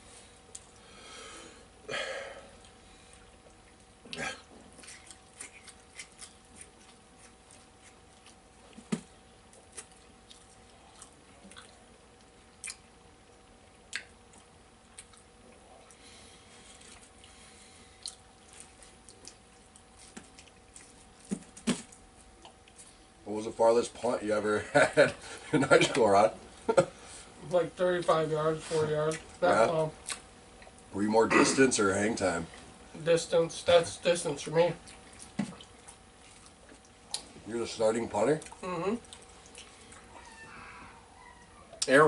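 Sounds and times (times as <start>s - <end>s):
people chewing pizza: 0.0s - 23.8s, 24.4s - 42.0s
faint steady hum: 0.0s - 42.0s.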